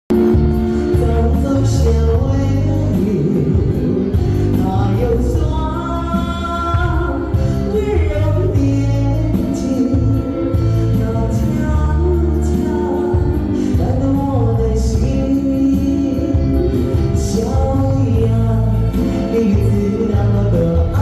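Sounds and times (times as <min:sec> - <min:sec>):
singing over a band: 0:00.2 - 0:21.0.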